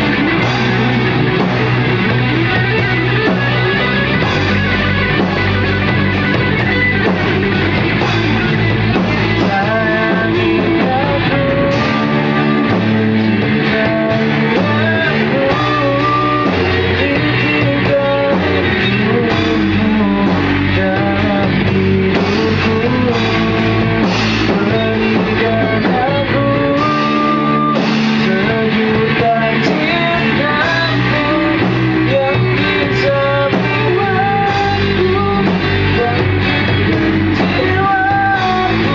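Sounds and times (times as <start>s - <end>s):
drums: 0.0s - 38.9s
guitars: 0.0s - 38.9s
person singing: 0.0s - 38.9s.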